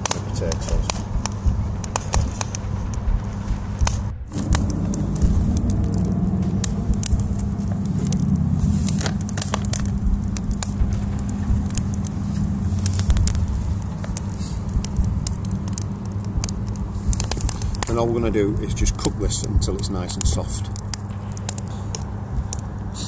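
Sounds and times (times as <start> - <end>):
low rumble: 0.0 - 23.0
wood fire crackling: 0.0 - 23.0.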